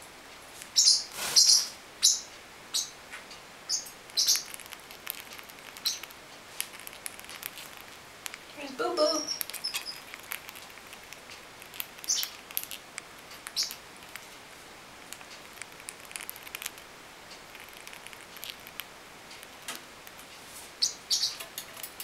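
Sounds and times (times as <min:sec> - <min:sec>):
parrotlets chirping: 0:00.6 - 0:03.0, 0:03.6 - 0:20.2, 0:20.8 - 0:21.5.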